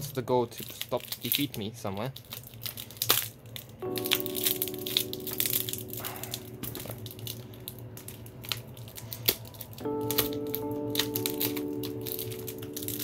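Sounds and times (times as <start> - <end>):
plastic wrapping crinkling: 0.0 - 13.0
soft background music: 0.0 - 13.0.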